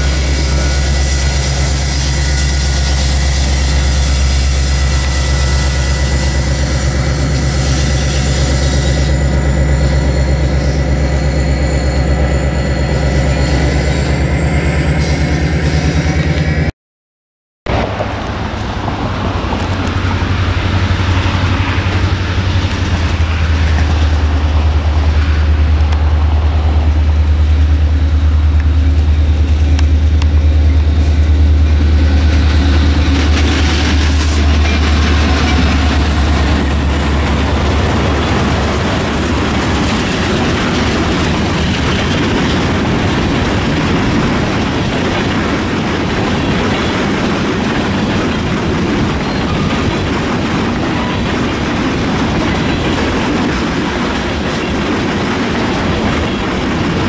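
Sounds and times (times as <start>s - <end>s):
diesel locomotives rumbling: 0.0s - 16.7s, 17.7s - 57.0s
freight cars rolling on rails: 0.0s - 16.7s, 17.7s - 57.0s.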